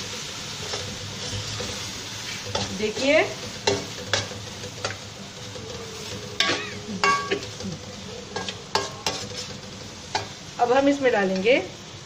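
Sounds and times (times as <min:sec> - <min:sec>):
meat sizzling in hot oil: 0:00.0 - 0:12.0
spoon scraping a pot: 0:00.1 - 0:10.4.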